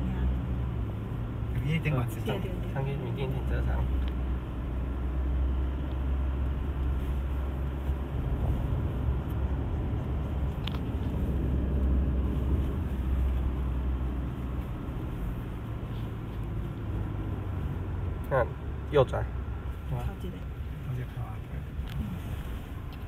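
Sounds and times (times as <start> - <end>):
diesel engine rumble in cab: 0.0 - 23.0
tyres on road: 0.0 - 23.0.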